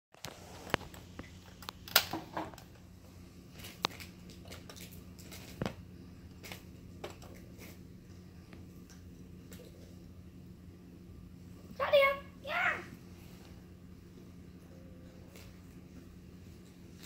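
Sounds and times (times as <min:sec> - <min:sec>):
low steady hum: 0:00.2 - 0:17.0.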